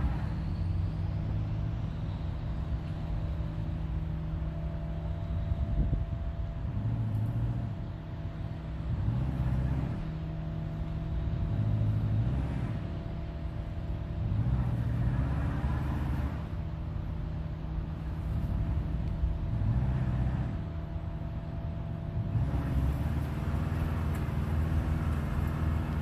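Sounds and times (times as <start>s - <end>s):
engine running at low speed: 0.0s - 26.0s.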